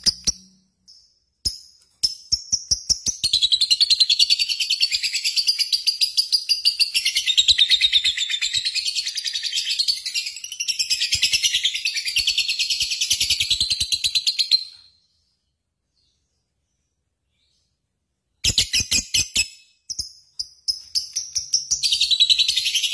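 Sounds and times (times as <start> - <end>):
rapid high-pitched bird chirping: 0.0 - 15.0, 18.4 - 22.9.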